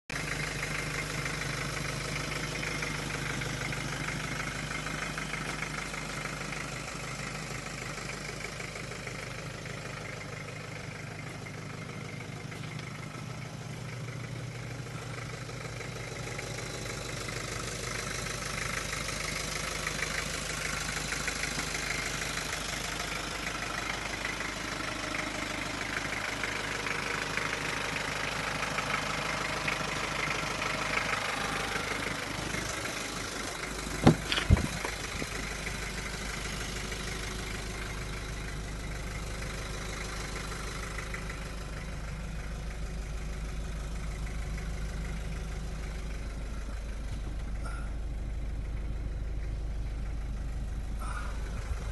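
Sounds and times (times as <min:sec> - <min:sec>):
car engine idling: 0:00.1 - 0:51.9.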